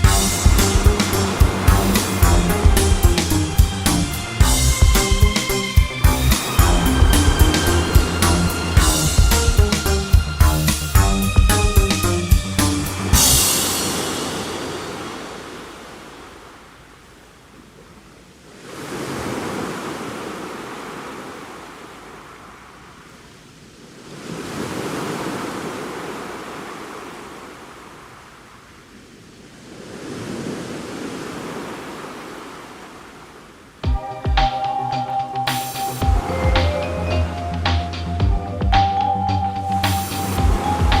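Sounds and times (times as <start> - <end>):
sea surf washing onto shore: 0.0 - 33.8, 39.7 - 41.0.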